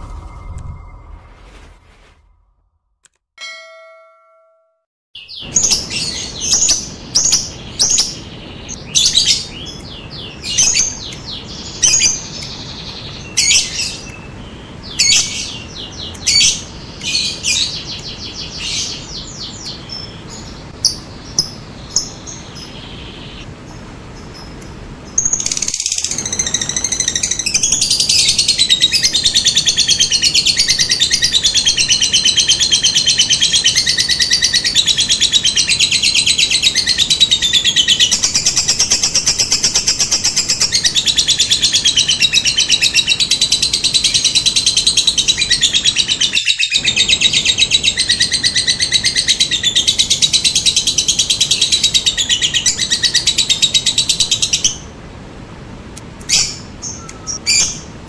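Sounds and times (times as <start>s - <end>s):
lovebird chirping and trilling: 5.2s - 54.9s, 56.2s - 57.9s.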